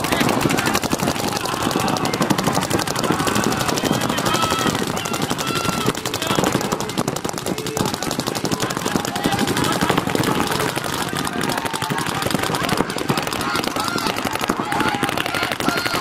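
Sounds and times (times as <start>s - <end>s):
paintball guns firing rapidly: 0.0s - 16.0s.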